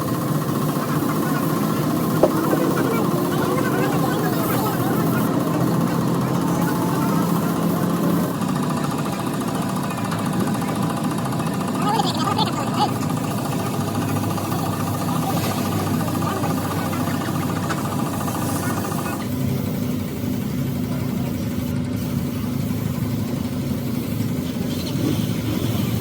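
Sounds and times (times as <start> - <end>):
motor engine running: 0.0 - 26.0.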